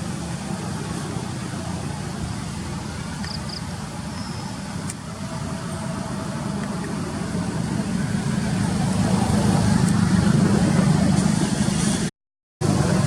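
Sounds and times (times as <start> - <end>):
road traffic and engines: 0.0 - 13.0.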